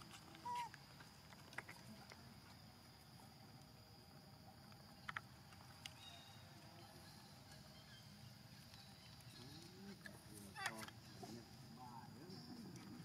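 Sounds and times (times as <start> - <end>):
insect chirp: 0.0 - 13.0.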